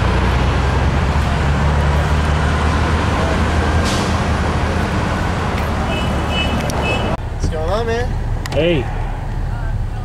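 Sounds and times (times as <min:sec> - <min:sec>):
car engine humming: 0:00.0 - 0:10.0.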